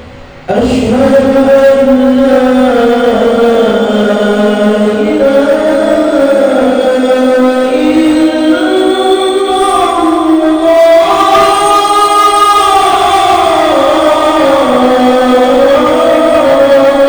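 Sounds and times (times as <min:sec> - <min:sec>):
solo voice singing call to prayer: 0:00.5 - 0:17.0.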